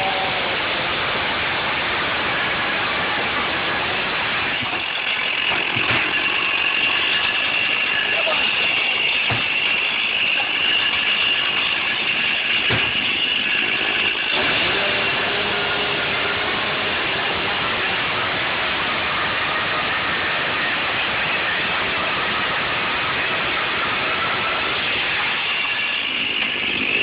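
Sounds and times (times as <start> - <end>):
chainsaw running: 3.2 - 27.0.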